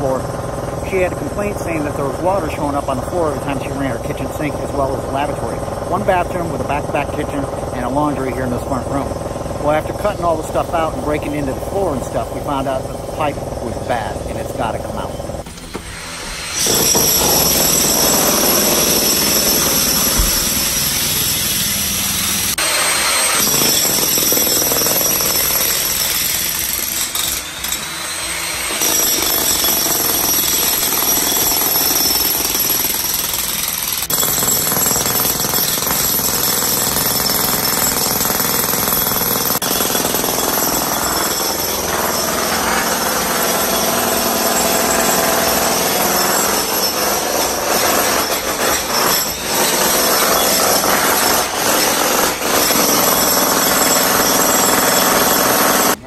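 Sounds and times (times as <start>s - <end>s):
jackhammer breaking concrete: 0.0s - 15.4s, 16.4s - 56.0s.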